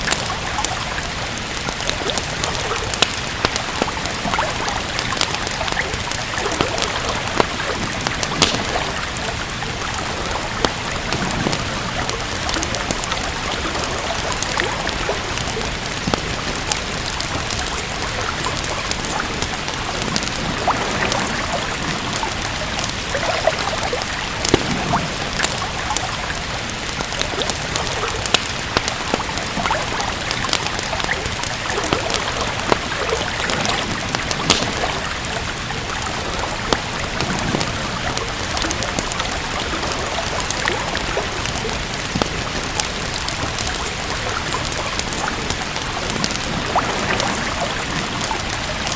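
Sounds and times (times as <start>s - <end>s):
steady rain: 0.0s - 48.9s
wood fire crackling: 0.0s - 48.9s.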